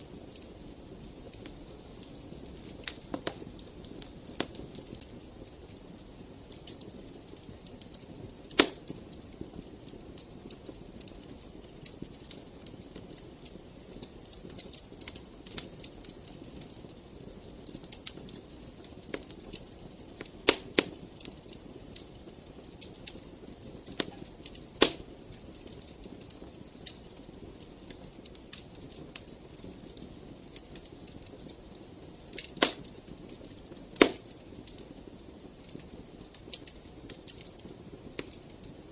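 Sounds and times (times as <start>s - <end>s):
wood fire crackling: 0.0s - 38.9s
fire sharp pops: 0.1s - 38.9s.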